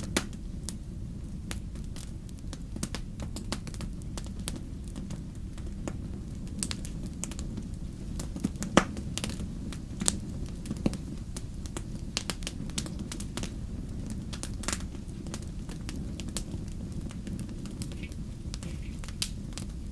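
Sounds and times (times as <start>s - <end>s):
wood fire crackling: 0.0s - 19.9s
sharp pops and snaps: 1.5s - 7.5s, 8.1s - 19.8s.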